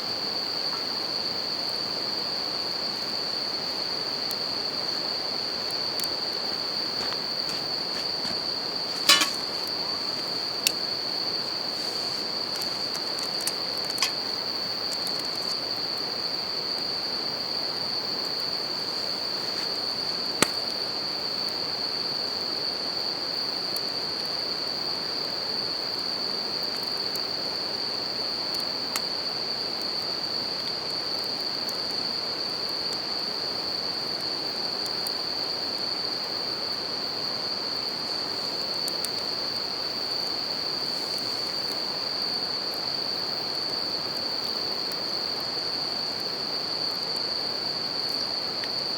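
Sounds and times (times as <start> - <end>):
crickets singing: 0.0 - 48.9
campfire crackles: 0.1 - 22.8, 26.3 - 48.9.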